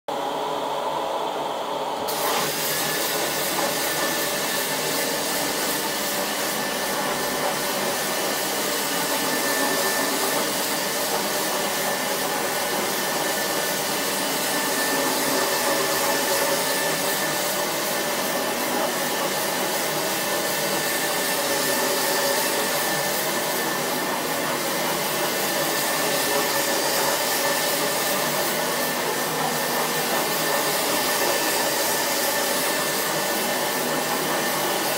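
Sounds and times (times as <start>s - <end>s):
carpet extraction vacuum running: 0.1s - 34.9s.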